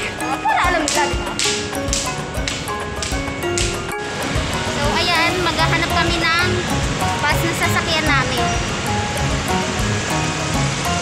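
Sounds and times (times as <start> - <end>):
held music notes: 0.0 - 11.0.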